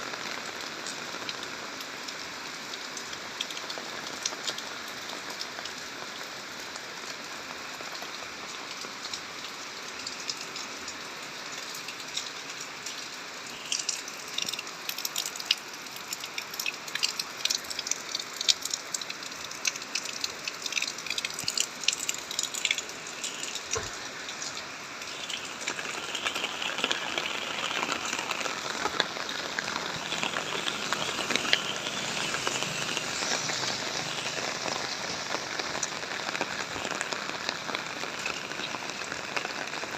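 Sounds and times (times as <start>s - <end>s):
rain hissing: 0.0s - 39.9s
raindrops striking a surface: 0.0s - 39.9s.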